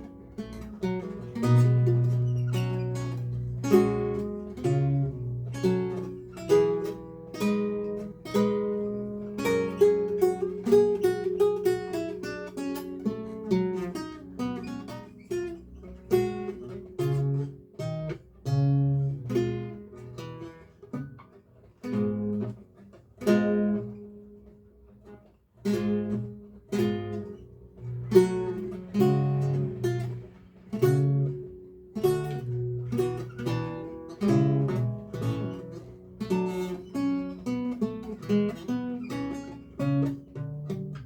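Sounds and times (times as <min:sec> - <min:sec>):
solo lute playing: 0:00.0 - 0:41.0.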